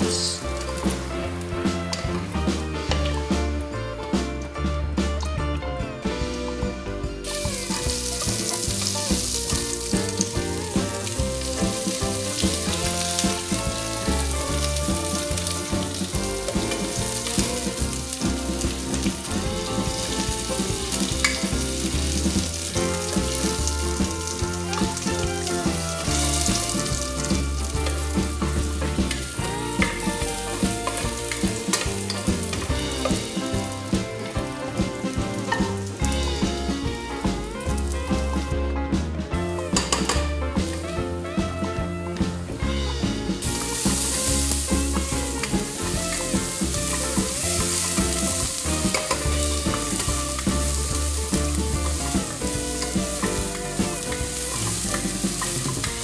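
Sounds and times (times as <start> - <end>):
food sizzling in hot oil: 0.0 - 3.4, 6.5 - 38.4, 39.6 - 41.0, 42.5 - 56.0.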